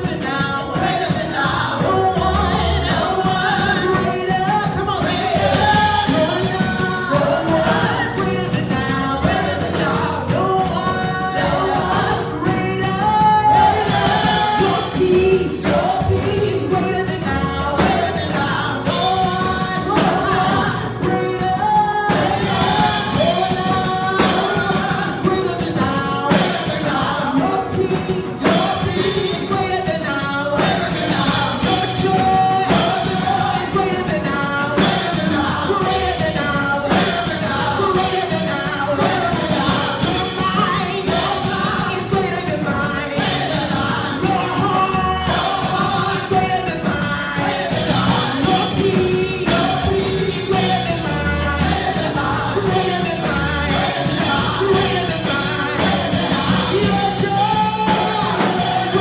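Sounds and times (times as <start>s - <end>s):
drums: 0.0s - 59.0s
live band playing: 0.0s - 59.0s
singing: 0.0s - 59.0s.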